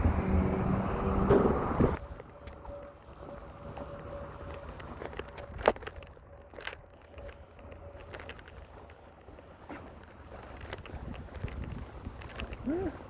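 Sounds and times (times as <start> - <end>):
bicycle riding rumble: 0.0 - 13.0.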